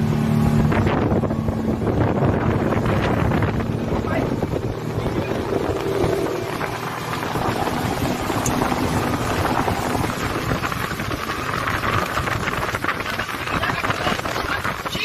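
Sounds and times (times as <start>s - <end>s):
speedboat engine: 0.0s - 15.0s
wind buffeting microphone: 0.0s - 15.0s.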